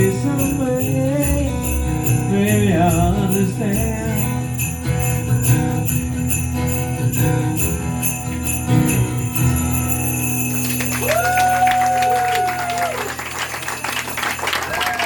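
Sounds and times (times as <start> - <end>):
sleigh bells shaken: 0.0 - 15.0.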